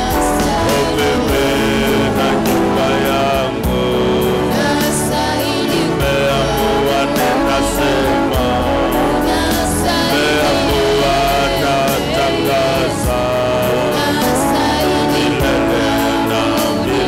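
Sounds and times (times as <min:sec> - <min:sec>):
congregation singing: 0:00.0 - 0:17.0
instrumental backing with beat: 0:00.0 - 0:17.0.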